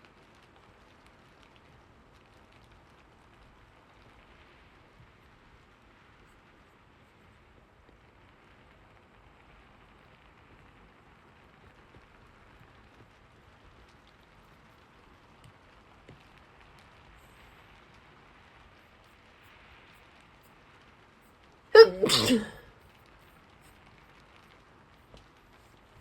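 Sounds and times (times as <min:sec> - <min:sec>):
soft steady rain: 0:00.0 - 0:21.8, 0:22.5 - 0:26.0.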